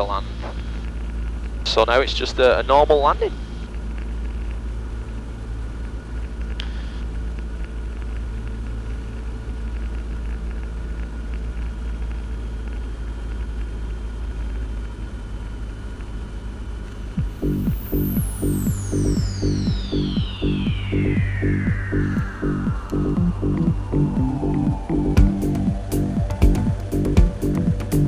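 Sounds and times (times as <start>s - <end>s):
propeller plane engine drone: 3.3s - 28.0s.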